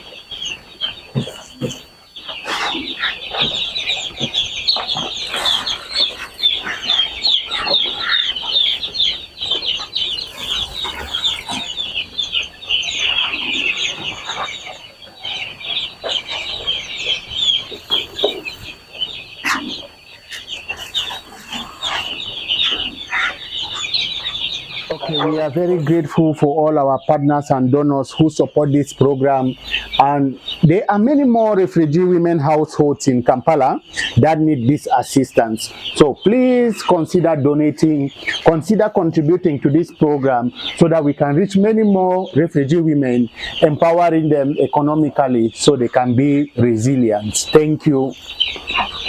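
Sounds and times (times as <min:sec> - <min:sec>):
chicks peeping: 0:00.0 - 0:49.0.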